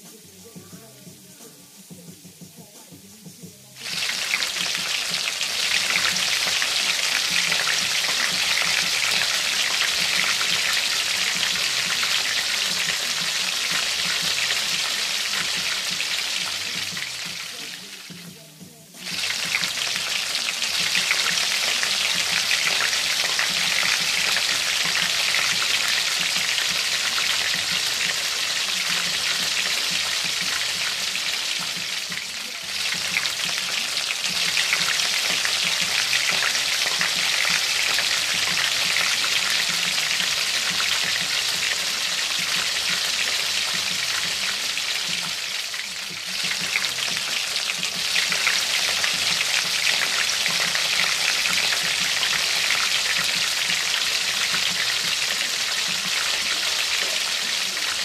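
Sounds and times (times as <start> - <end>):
meat sizzling in hot oil: 1.2 - 58.0.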